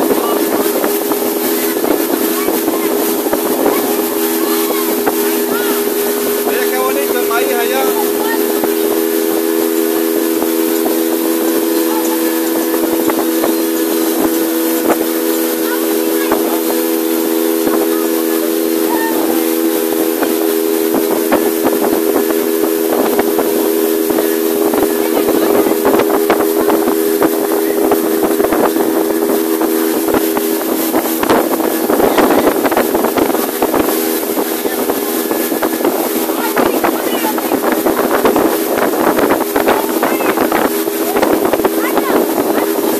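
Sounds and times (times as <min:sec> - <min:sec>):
outboard motor droning: 0:00.0 - 0:42.9
rushing water hissing: 0:00.0 - 0:42.9
wind: 0:00.0 - 0:42.9.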